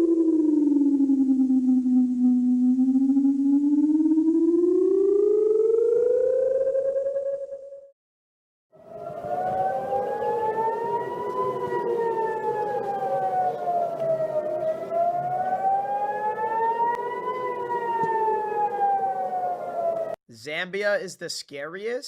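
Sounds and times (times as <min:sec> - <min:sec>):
warning siren wailing: 0:00.0 - 0:07.9, 0:08.7 - 0:20.2.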